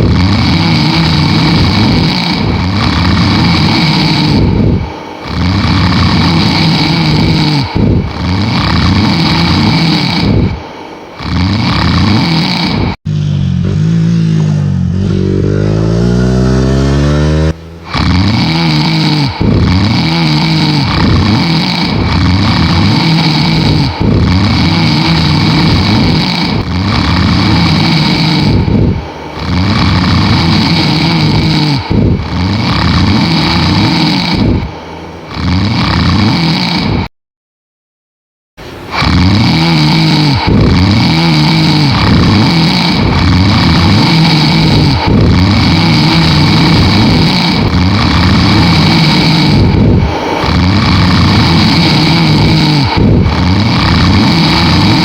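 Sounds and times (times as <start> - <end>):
loud snoring: 0.0 - 37.1, 38.6 - 55.0
motorcycle engine revving: 0.0 - 37.1, 38.6 - 55.0.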